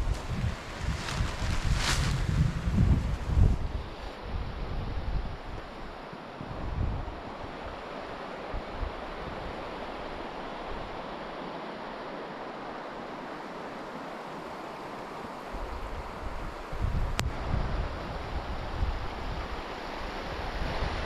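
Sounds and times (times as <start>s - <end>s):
wind buffeting microphone: 0.0s - 11.2s, 15.2s - 21.0s.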